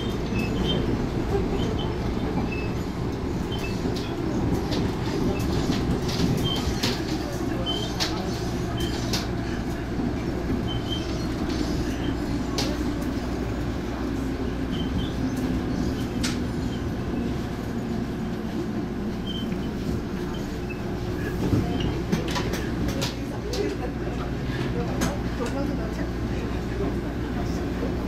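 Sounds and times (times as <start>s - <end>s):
train wheels rumbling and humming: 0.0s - 28.0s.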